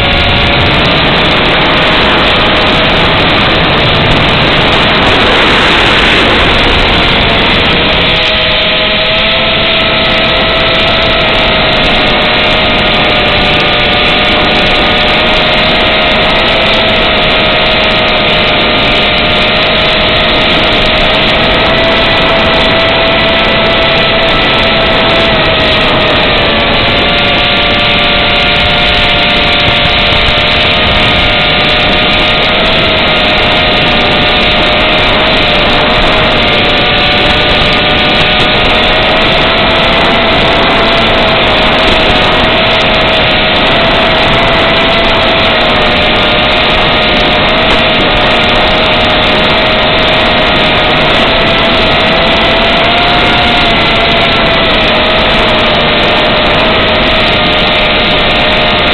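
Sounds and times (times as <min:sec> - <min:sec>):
drone motors whining: 0:00.0 - 0:58.9.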